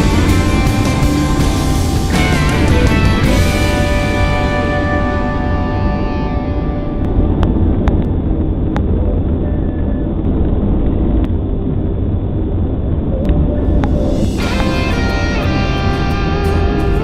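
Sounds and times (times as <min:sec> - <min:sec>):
vehicle driving rumble: 0:00.0 - 0:17.0.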